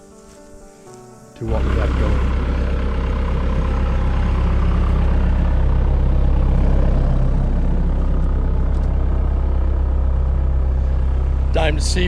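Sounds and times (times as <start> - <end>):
heavy equipment engine running: 1.4 - 12.0.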